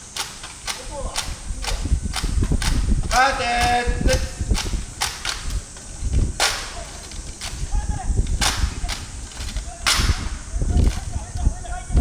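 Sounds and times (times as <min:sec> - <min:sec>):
faint rifle clacks: 0:00.0 - 0:11.6
rifles slapped in unison: 0:00.1 - 0:11.2.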